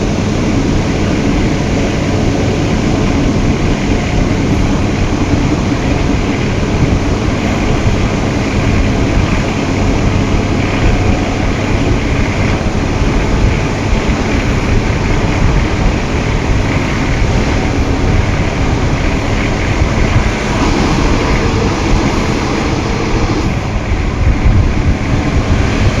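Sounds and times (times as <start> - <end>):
train rumbling on track: 0.0 - 26.0.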